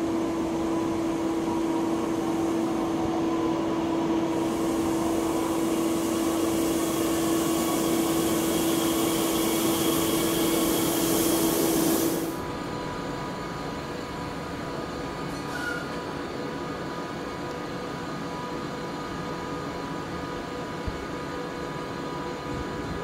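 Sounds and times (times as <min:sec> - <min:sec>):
electric train running hum: 0:00.0 - 0:23.0
standing train quiet hum: 0:00.0 - 0:23.0.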